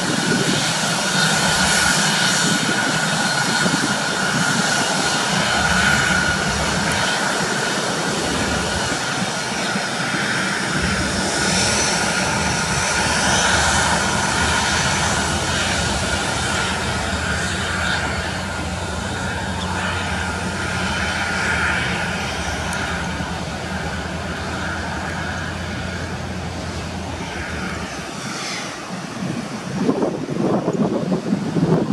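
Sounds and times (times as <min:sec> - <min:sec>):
jet engines running: 0:00.0 - 0:31.9.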